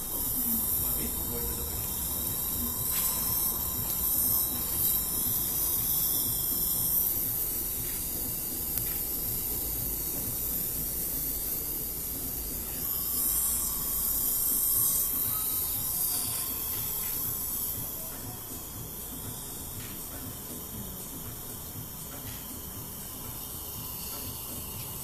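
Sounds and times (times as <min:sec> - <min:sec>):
dental equipment hissing: 0:00.0 - 0:25.0.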